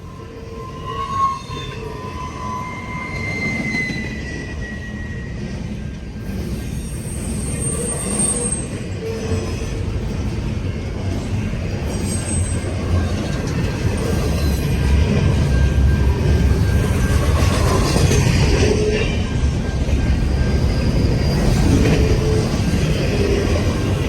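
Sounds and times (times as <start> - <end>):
high-pitched wheel squeals: 0.0 - 9.9, 11.9 - 24.0
freight train rolling rumble: 0.0 - 24.0.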